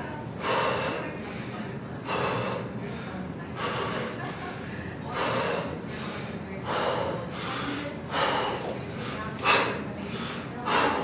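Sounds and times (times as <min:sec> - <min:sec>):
man breathing hard: 0:00.4 - 0:11.0.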